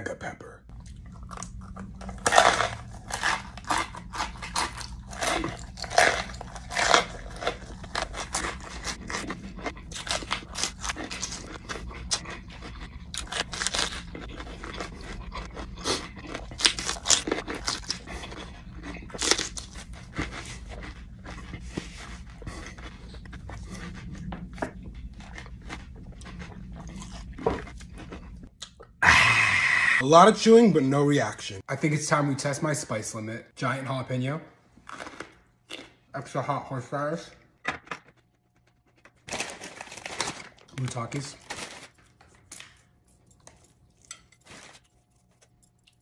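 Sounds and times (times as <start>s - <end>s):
steady low hum: 0.0s - 40.7s
crunchy chewing of pepper: 0.7s - 29.8s, 38.1s - 46.0s.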